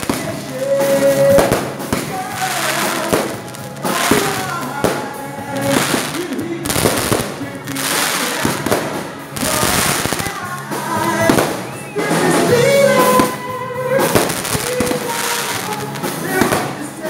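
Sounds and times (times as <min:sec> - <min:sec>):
fireworks bangs and crackling: 0:00.0 - 0:17.0
music playing: 0:00.0 - 0:17.0.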